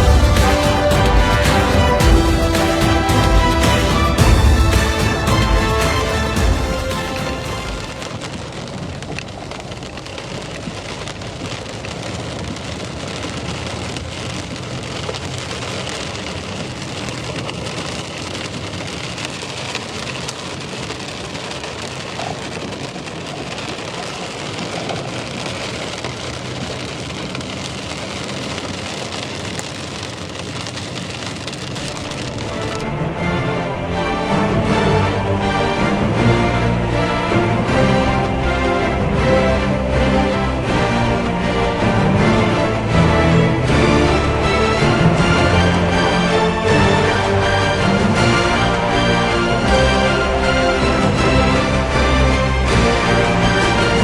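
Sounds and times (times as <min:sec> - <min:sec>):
raindrops ticking on hard surface: 0:00.0 - 0:33.0, 0:35.4 - 0:54.0
heavy rain pouring: 0:00.0 - 0:54.0.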